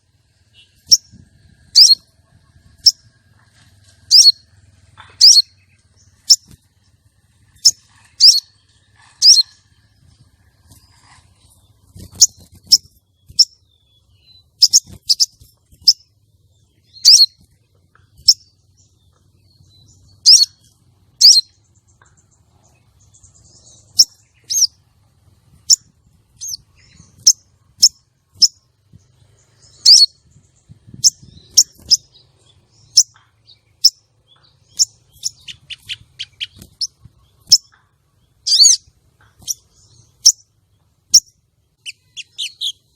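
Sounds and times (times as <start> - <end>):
bird high chirps: 0.4 - 24.9, 25.5 - 42.9.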